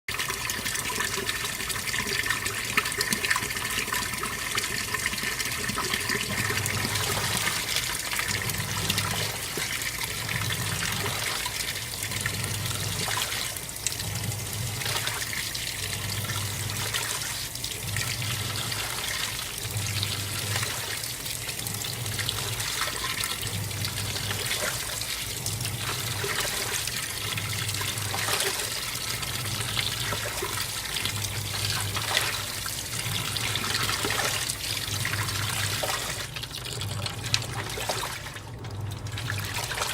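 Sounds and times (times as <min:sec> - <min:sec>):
washing machine motor agitating: 0:00.1 - 0:39.9
water rushing into washing machine: 0:00.1 - 0:39.9.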